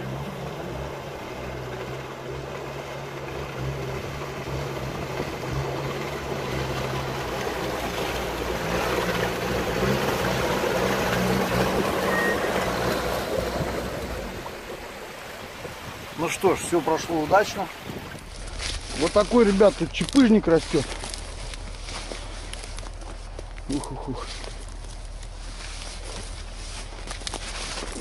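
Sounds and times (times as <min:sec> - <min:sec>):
vehicle engine revving: 0:00.0 - 0:28.0
water rushing: 0:00.0 - 0:28.0.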